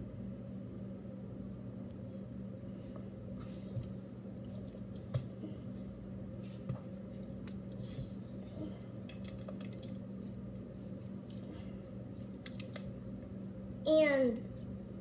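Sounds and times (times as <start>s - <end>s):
steady low hum: 0.0s - 15.0s
soft squishing of mixture: 0.4s - 13.8s.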